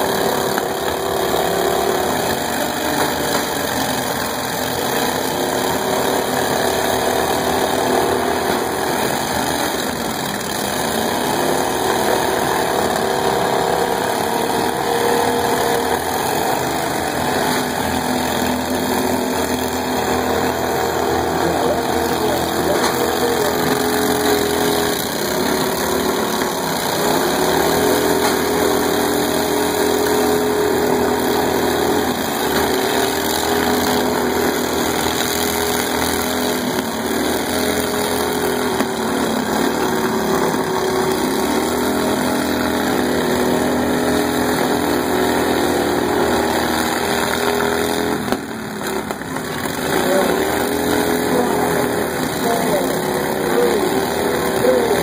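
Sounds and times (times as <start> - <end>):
lawn mower engines revving: 0.0 - 55.0.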